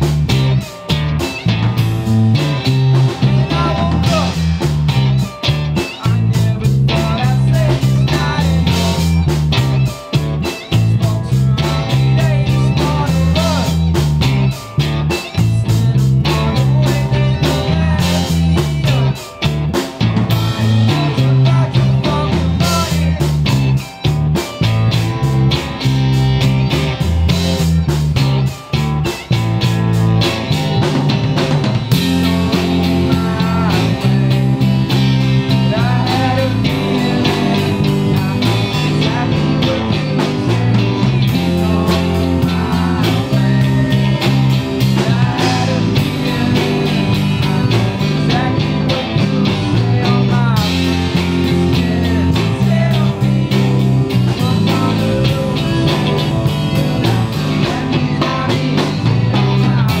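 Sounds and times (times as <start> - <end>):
bass guitar: 0.0 - 60.0
drums: 0.0 - 60.0
guitars: 0.0 - 60.0
person singing: 2.5 - 4.8, 5.6 - 24.7, 31.9 - 60.0.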